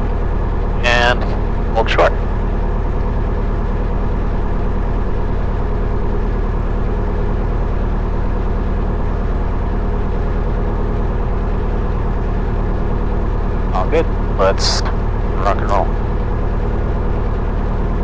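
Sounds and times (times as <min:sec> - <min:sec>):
propeller plane engine running: 0:00.0 - 0:18.0.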